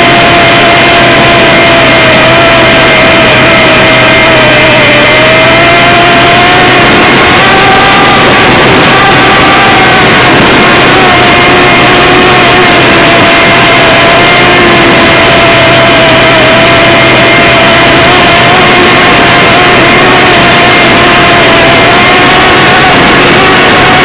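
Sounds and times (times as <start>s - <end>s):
model airplane motor whine: 0.0s - 24.0s
wind rushing on microphone: 0.0s - 24.0s.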